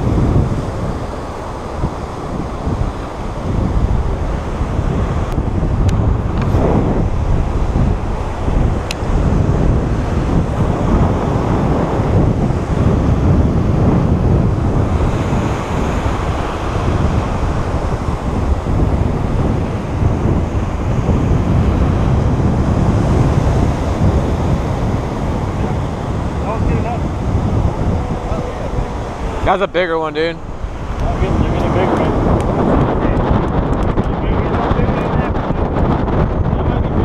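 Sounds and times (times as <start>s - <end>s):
surf breaking and washing: 0.0s - 37.0s
wind buffeting microphone: 0.0s - 37.0s.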